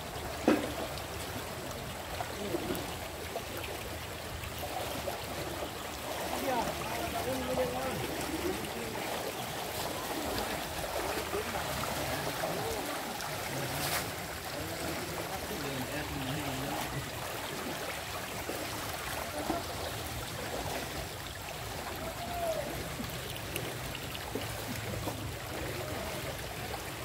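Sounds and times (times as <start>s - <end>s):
river water rushing: 0.0s - 27.0s
faint voices: 4.5s - 27.0s.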